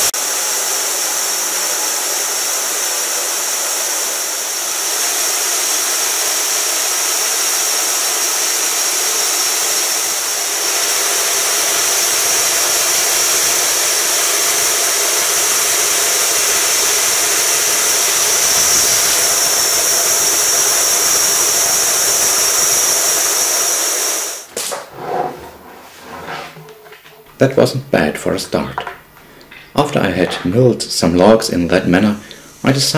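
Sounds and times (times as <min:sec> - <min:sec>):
band saw cutting log: 0:00.0 - 0:26.6.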